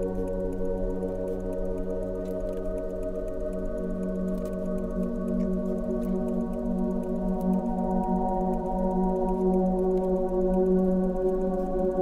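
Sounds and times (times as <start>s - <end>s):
ambient music with held tones: 0.0s - 12.0s.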